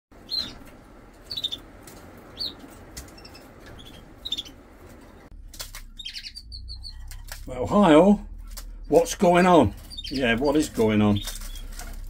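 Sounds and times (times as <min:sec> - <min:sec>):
canaries chirping: 0:00.2 - 0:12.0.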